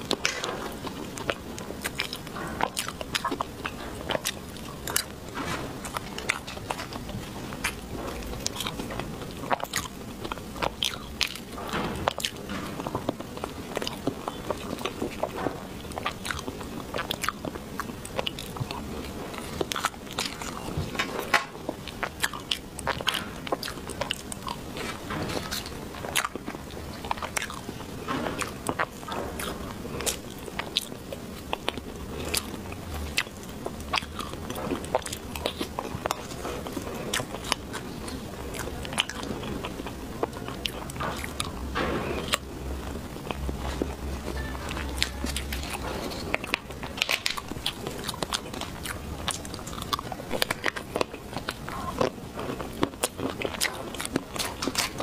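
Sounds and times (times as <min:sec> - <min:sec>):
chewing with wet mouth sounds: 0:00.0 - 0:55.0.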